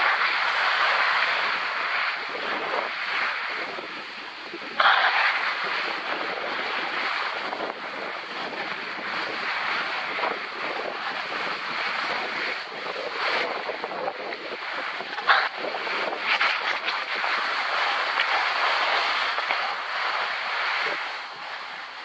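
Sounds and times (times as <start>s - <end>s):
skis scraping over crusty snow: 0.0s - 22.0s
wind rushing over microphone: 0.0s - 22.0s.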